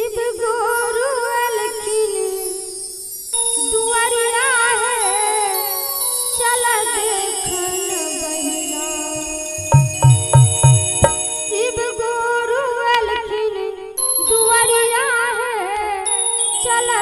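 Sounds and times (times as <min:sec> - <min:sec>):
woman singing devotional song: 0:00.0 - 0:09.4, 0:11.2 - 0:17.0.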